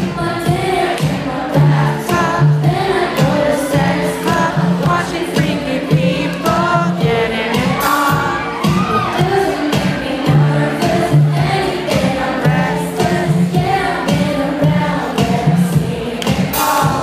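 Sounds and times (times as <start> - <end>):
electronic backing track with drums: 0.0 - 17.0
woman singing into a microphone: 0.0 - 17.0.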